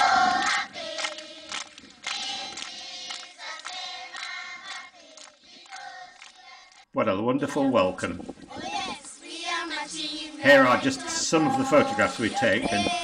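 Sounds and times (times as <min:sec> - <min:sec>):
children's choir singing: 0:00.0 - 0:06.9, 0:08.5 - 0:13.0.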